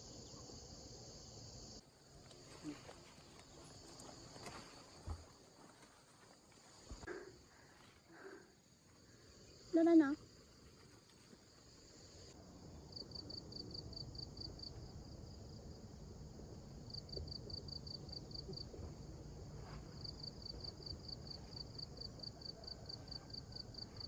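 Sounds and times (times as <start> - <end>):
insect chirping: 0.0 - 24.0.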